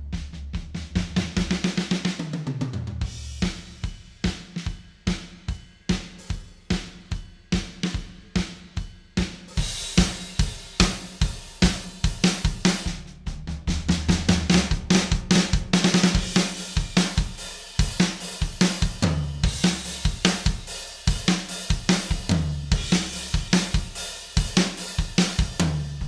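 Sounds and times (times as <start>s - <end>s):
drum kit playing a groove: 0.0s - 26.0s.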